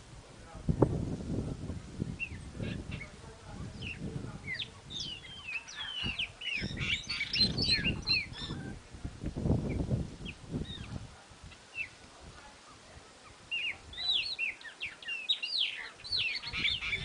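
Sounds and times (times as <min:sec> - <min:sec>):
birds chirping: 0:01.8 - 0:17.0.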